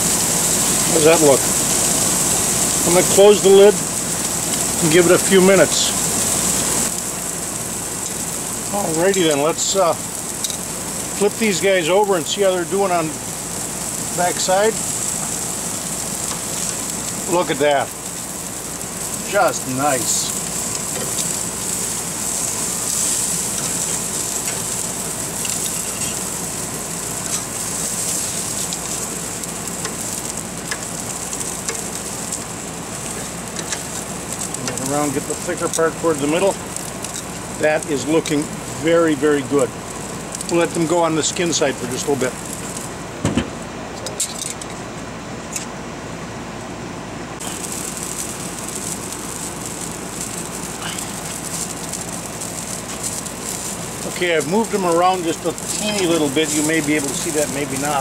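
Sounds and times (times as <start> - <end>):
fish sizzling on a grill: 0.0 - 58.0.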